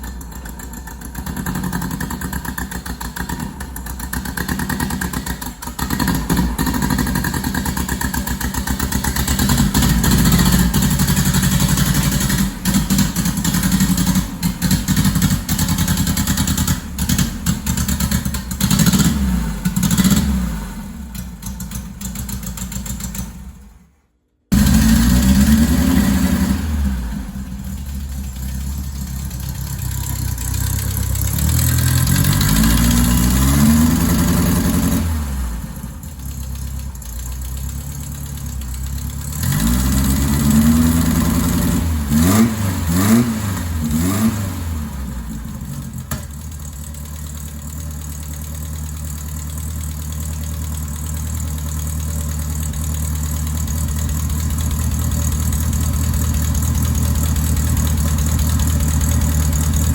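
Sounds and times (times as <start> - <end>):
car engine revving and idling: 0.0 - 23.8, 24.5 - 59.9.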